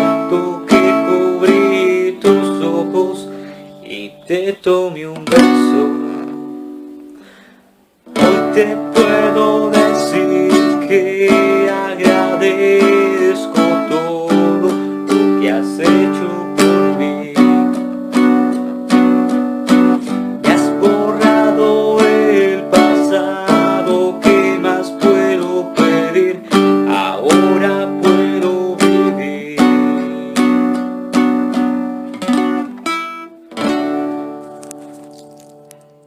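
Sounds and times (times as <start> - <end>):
guitar chords strummed: 0.0 - 36.0.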